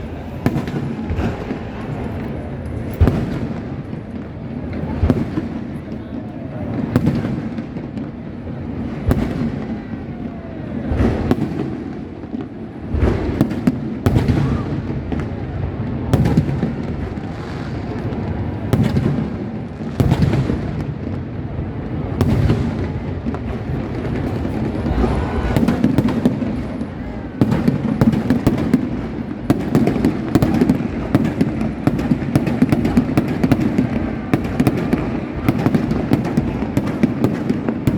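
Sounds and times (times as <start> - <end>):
distant fireworks rumble and crackle: 0.0 - 37.9
fireworks bursting with sharp bangs: 0.0 - 37.9.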